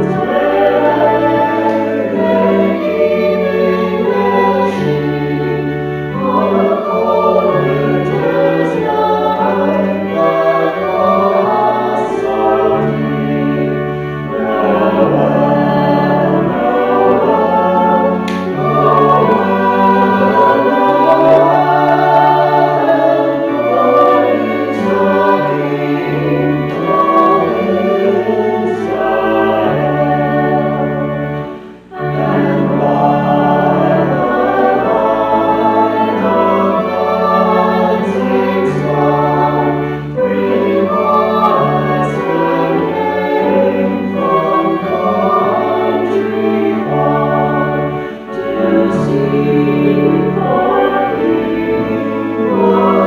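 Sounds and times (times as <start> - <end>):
choir singing sustained chords: 0.0 - 53.0.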